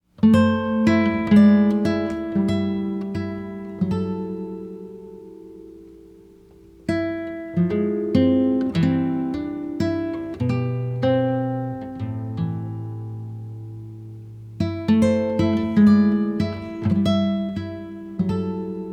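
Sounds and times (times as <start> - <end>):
acoustic guitar plucking: 0.1 - 18.9.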